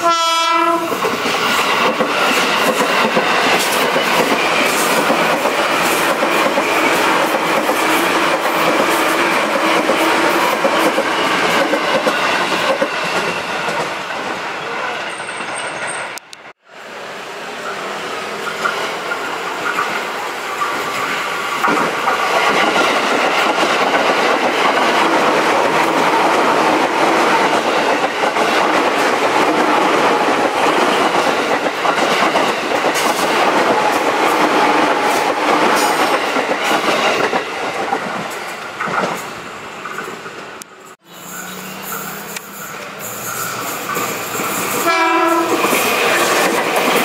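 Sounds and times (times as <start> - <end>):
train wheels clattering over rails: 0.8 - 14.1, 18.4 - 40.4, 42.0 - 47.0.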